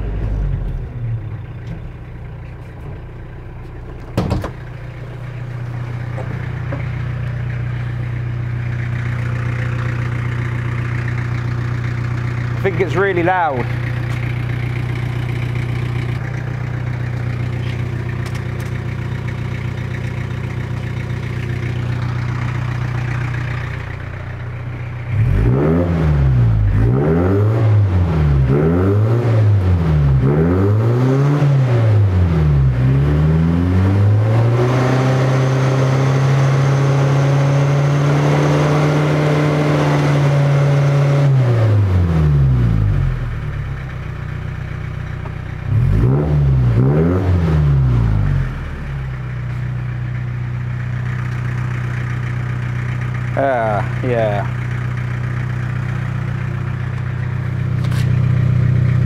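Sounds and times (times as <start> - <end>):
loud diesel van engine revving: 4.6 - 45.0, 45.6 - 59.0.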